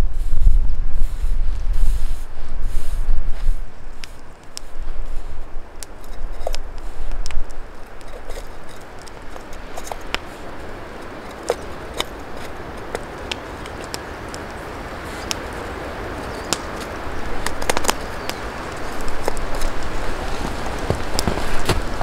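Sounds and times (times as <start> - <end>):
snow crunching: 0.0 - 22.0.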